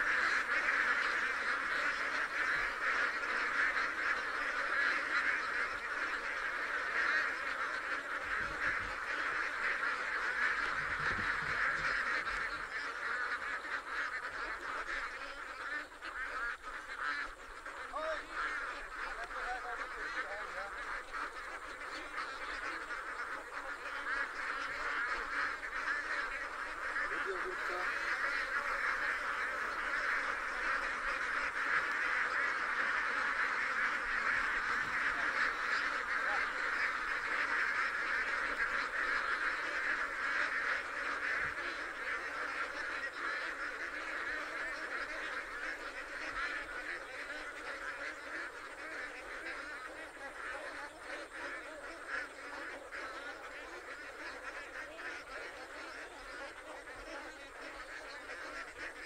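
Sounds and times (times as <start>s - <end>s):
flock of ducks quacking: 0.0s - 59.0s.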